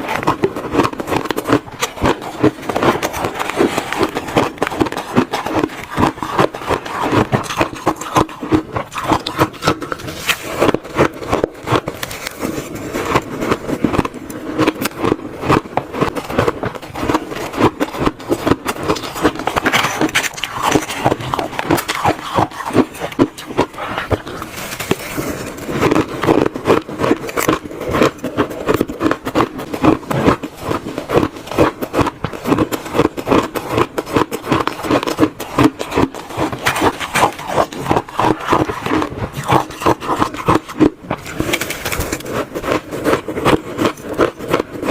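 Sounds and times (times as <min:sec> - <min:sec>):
chewing crunchy shaved ice: 0:00.0 - 0:44.9.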